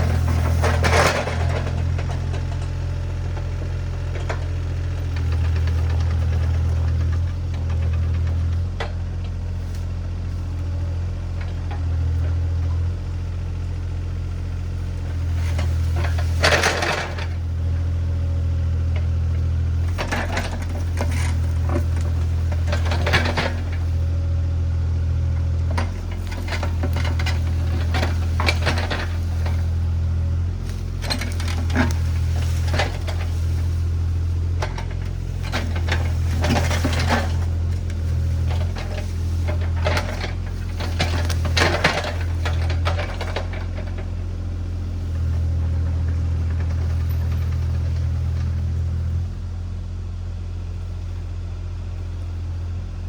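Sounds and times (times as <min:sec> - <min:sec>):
machine clanks and crunches: 0:00.0 - 0:09.9, 0:15.1 - 0:49.2
diesel engine droning: 0:00.0 - 0:53.0.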